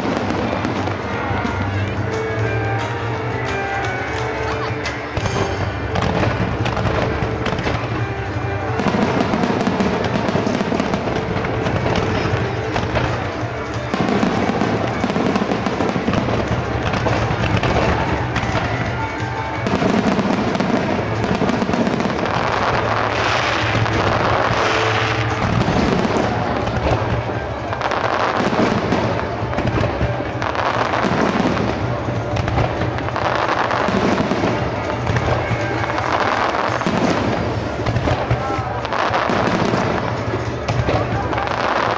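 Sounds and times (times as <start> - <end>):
fireworks crackling: 0.0 - 41.9
music playing: 0.0 - 41.9.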